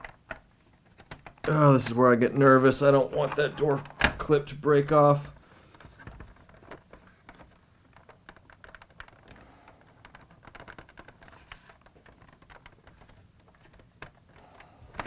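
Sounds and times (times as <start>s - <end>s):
hard plastic clicks and scrapes: 0.0s - 15.0s.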